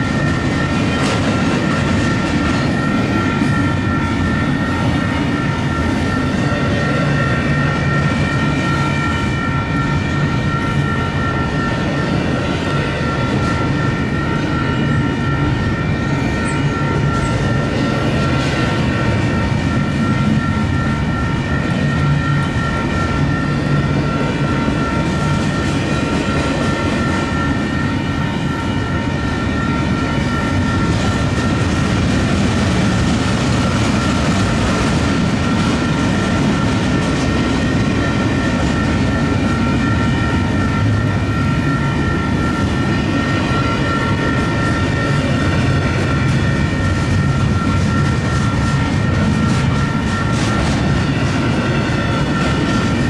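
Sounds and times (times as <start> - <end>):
steady high-pitched tones: 0.0 - 53.0
steel wheels rumbling on rail: 0.0 - 53.0.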